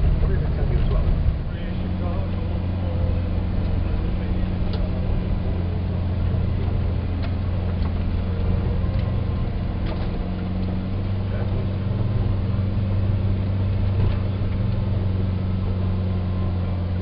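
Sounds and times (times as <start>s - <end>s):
van engine droning: 0.0s - 17.0s.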